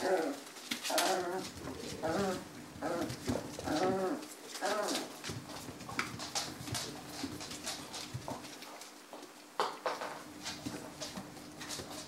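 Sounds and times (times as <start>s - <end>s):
puppy claws scratching on rubber mat: 0.0s - 9.3s, 10.3s - 12.0s.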